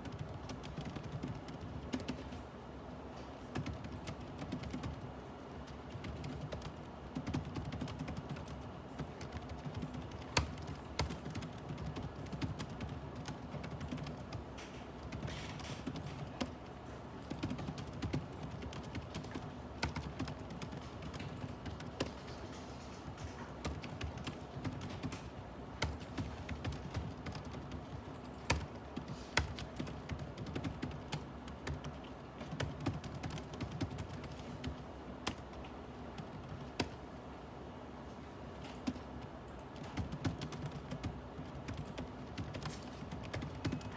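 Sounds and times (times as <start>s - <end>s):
typing on computer keyboard: 0.0s - 2.5s, 3.4s - 37.0s, 38.6s - 43.9s.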